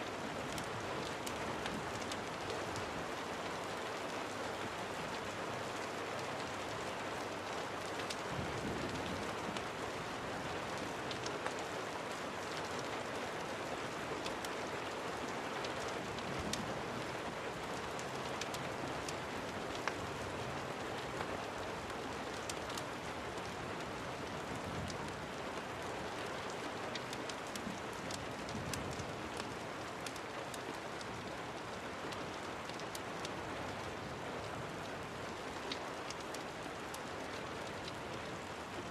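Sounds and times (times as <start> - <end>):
steady rain falling: 0.0 - 38.9
wood fire crackling: 0.1 - 38.9.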